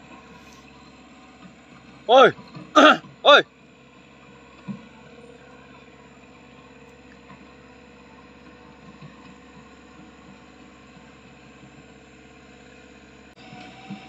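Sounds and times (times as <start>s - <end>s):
distant diesel engine running: 0.0s - 14.0s.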